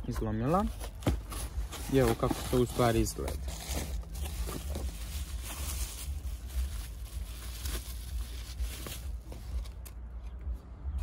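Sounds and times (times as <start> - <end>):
bubble wrap and cardboard crinkling: 0.0 - 10.0
low steady rumble: 0.7 - 11.0.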